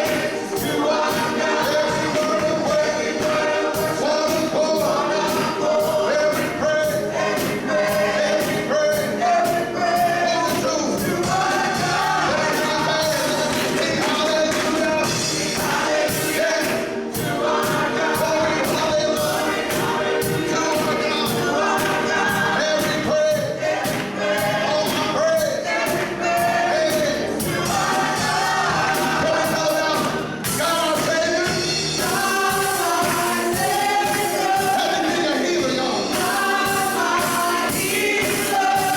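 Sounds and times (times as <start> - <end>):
drums beat: 0.0 - 38.9
gospel choir singing with band: 0.0 - 38.9.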